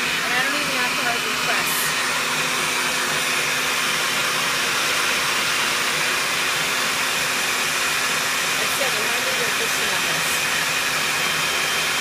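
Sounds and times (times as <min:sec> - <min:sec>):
spiralizer motor running: 0:00.0 - 0:12.0.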